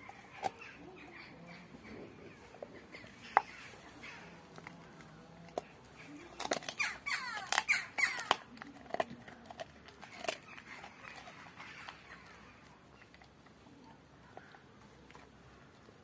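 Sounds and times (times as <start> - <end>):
dog teeth crunching on bone: 0.0 - 16.0.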